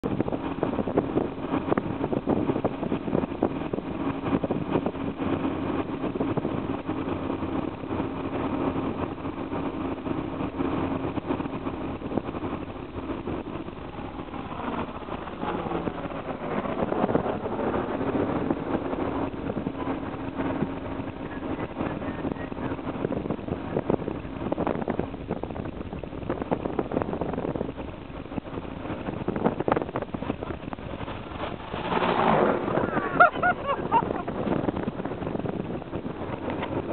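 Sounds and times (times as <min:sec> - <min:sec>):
vehicle engine and road noise: 0:00.0 - 0:36.9
helicopter flying overhead: 0:00.2 - 0:36.9.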